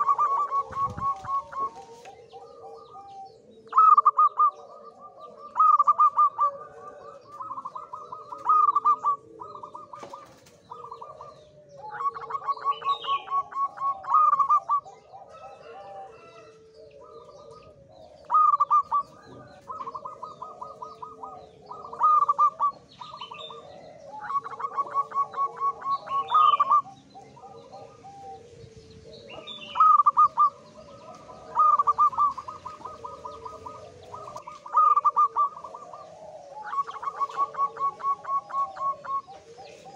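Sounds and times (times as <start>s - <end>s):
dove cooing: 0.0s - 39.9s
soft low bird calls: 0.0s - 39.9s.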